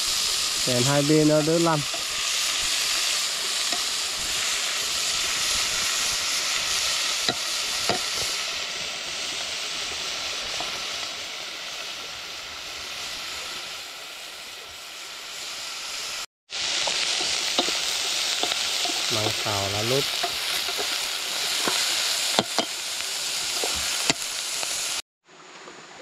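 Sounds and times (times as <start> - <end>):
vegetables sizzling in a pan: 0.0 - 25.7.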